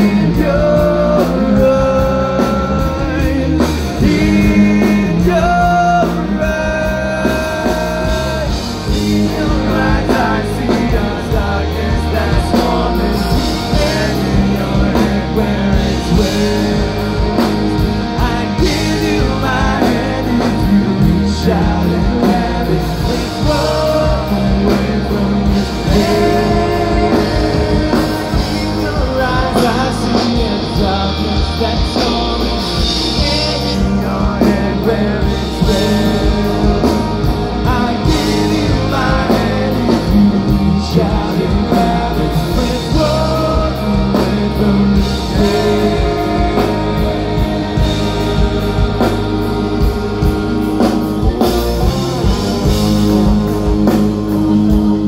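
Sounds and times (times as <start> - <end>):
person singing: 0.0 - 55.0
rock band playing: 0.0 - 55.0.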